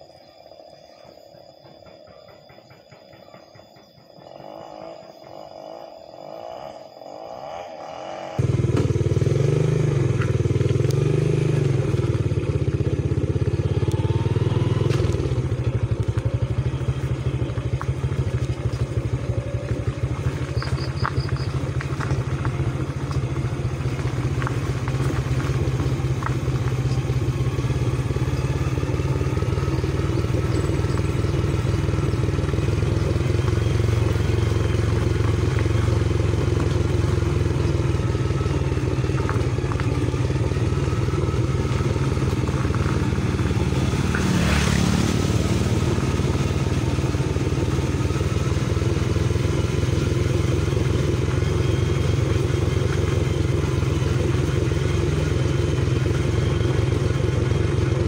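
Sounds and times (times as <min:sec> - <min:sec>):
faint outdoor ambience: 0:00.0 - 0:58.0
motorcycle engine running: 0:00.8 - 0:58.0
motorcycle rattling: 0:08.2 - 0:58.0.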